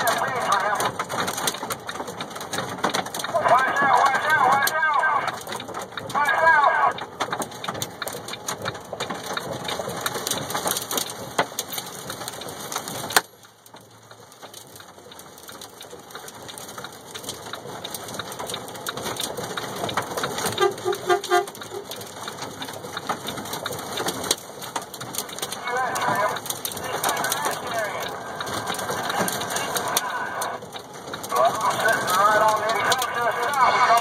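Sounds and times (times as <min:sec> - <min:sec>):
heavy rain on truck cab: 0:00.0 - 0:34.0.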